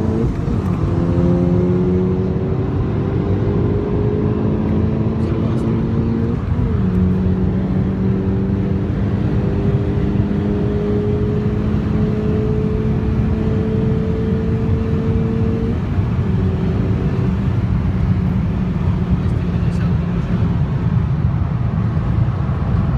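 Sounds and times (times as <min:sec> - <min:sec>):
car engine and exhaust running: 0:00.0 - 0:22.9.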